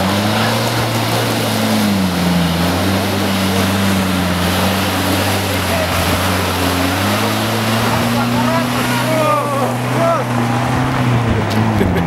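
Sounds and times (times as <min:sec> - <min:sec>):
engine droning under load: 0:00.0 - 0:12.0.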